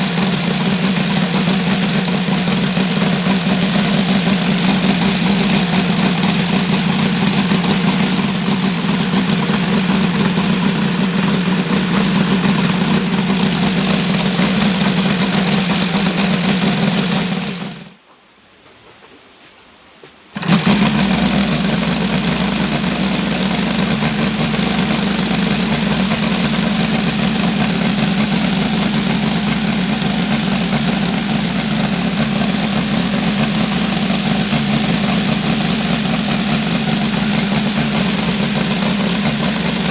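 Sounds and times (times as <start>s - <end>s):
model engine running steadily: 0.0s - 18.0s, 20.4s - 39.9s.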